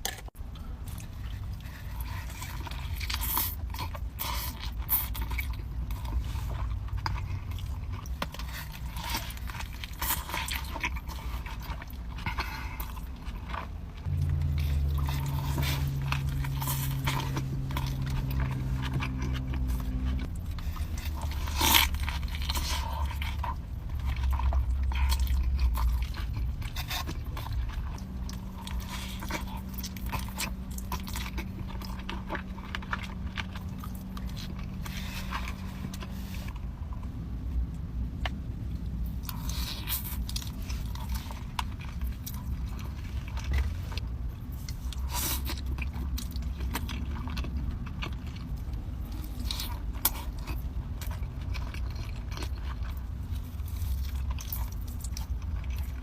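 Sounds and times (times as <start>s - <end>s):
chewing: 0.0s - 56.0s
low steady hum: 0.0s - 56.0s.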